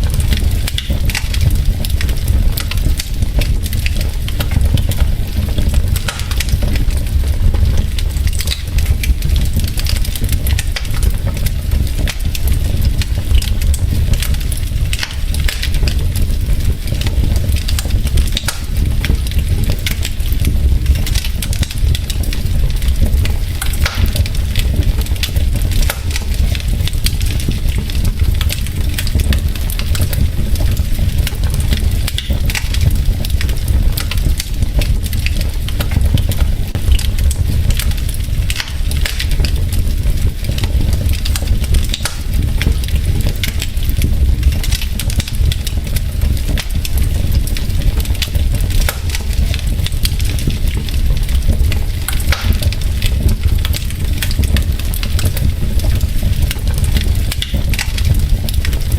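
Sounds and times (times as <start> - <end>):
wood logs crackling in fireplace: 0.0 - 58.9.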